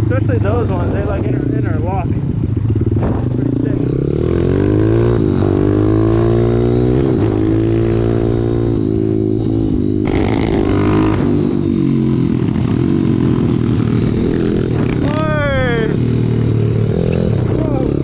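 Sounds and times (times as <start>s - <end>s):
motorbike engine shifting gears: 1.0s - 18.0s.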